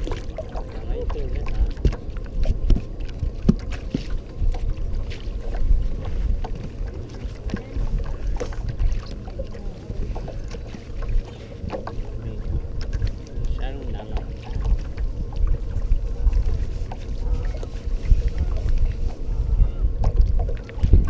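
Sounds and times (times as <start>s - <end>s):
water slapping against hull: 0.0s - 21.0s
wind buffeting microphone: 0.0s - 21.0s.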